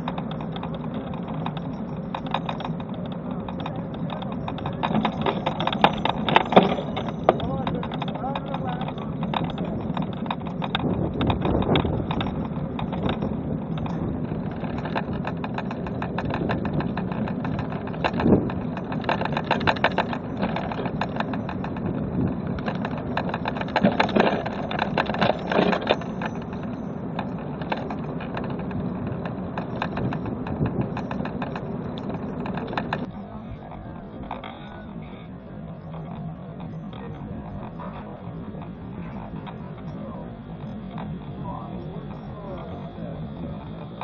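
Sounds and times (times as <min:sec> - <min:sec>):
machine engine running: 0:00.0 - 0:44.0.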